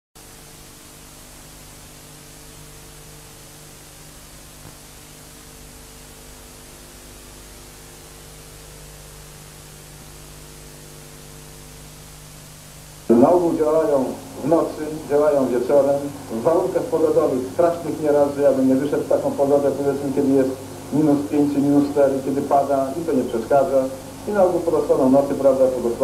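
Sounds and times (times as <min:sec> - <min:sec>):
low mains hum: 0:00.2 - 0:26.0
steady hiss: 0:00.2 - 0:26.0.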